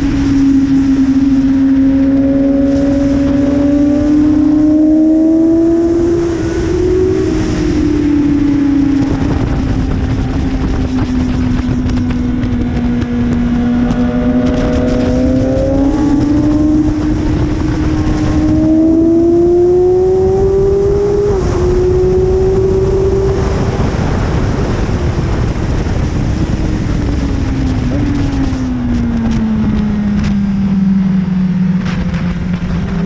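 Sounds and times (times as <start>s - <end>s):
heavy wind rush: 0.0s - 33.0s
motorcycle engine running hard: 0.0s - 33.0s.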